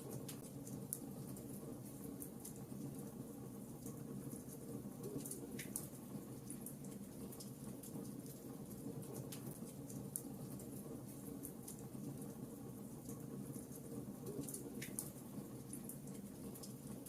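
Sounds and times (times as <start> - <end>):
logs crackling in fireplace: 0.0 - 17.0
soft low rumble of fire: 0.0 - 17.0.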